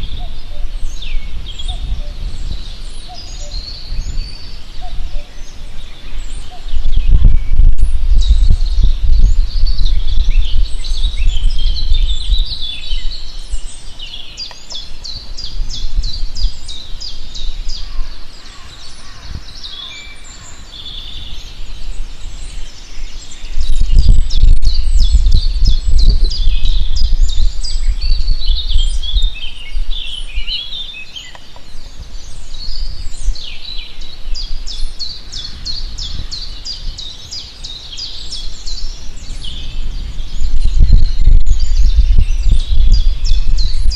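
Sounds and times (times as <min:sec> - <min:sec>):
songbirds singing and calling: 0:00.0 - 0:43.9.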